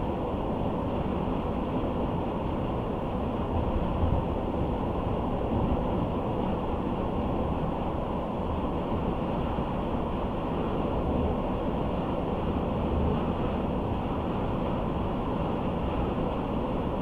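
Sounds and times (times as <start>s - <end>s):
car road and tyre noise: 0.0s - 17.0s.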